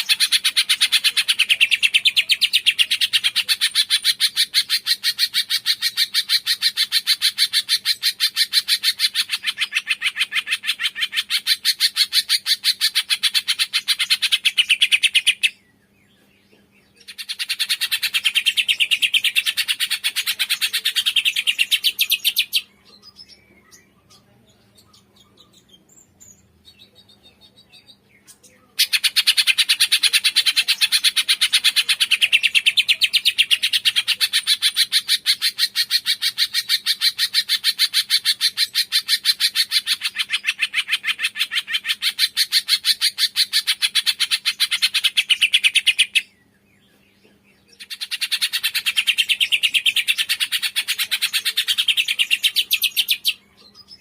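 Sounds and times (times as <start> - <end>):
faint bird chirps: 0.0 - 54.0.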